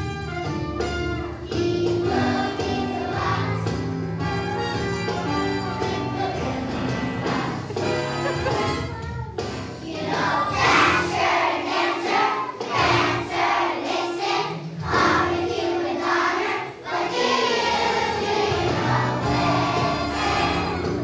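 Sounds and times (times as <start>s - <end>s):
children's choir singing: 1.2s - 4.3s, 5.2s - 8.6s, 9.5s - 21.0s.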